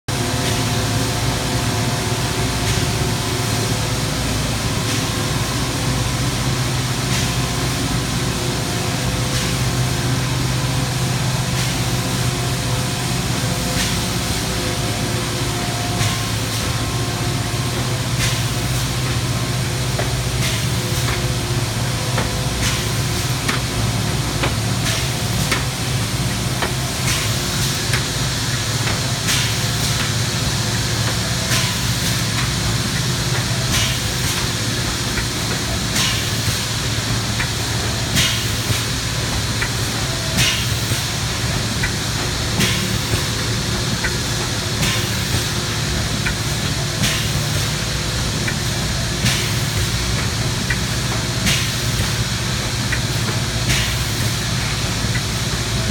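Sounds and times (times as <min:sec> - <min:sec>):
industrial machinery hum: 0:00.0 - 0:55.9.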